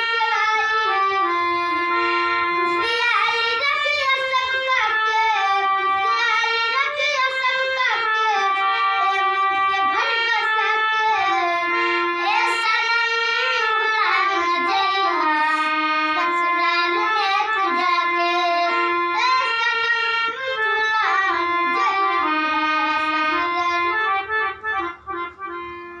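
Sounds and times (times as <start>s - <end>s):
child singing folk song: 0.0s - 25.4s
harmonium chords: 0.0s - 26.0s.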